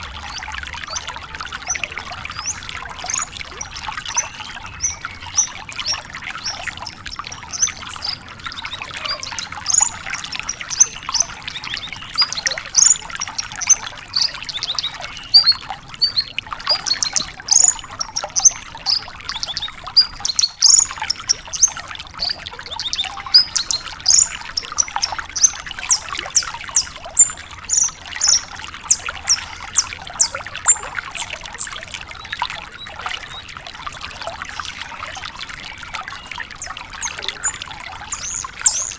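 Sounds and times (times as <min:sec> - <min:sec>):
lark singing chirps and trills: 0:00.0 - 0:38.9.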